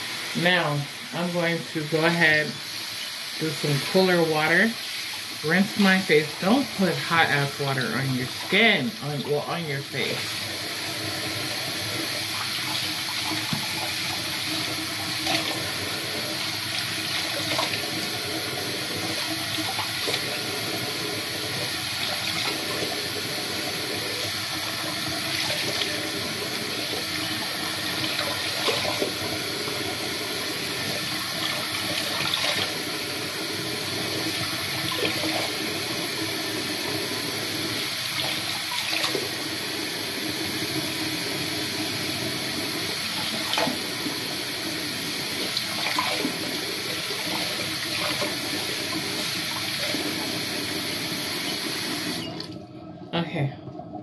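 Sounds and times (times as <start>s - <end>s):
faucet running: 0.0s - 52.8s.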